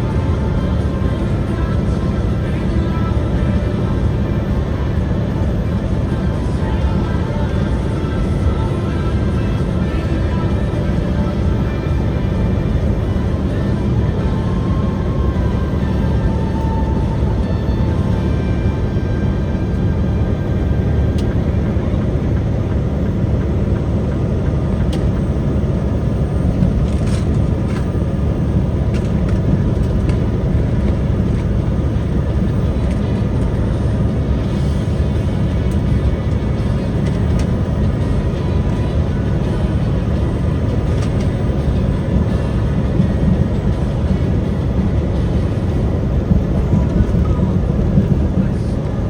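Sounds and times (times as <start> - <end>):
road noise: 0.0 - 49.0
truck engine rumble: 0.0 - 49.0.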